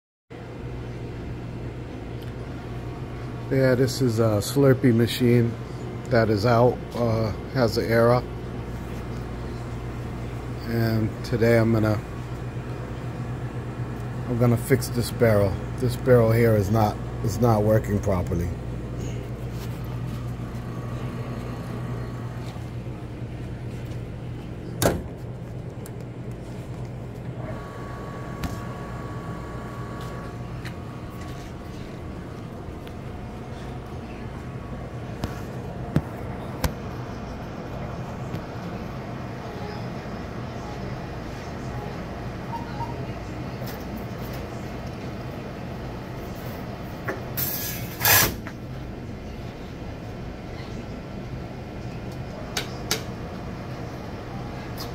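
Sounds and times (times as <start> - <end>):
low electric machine hum: 0.4 - 54.9.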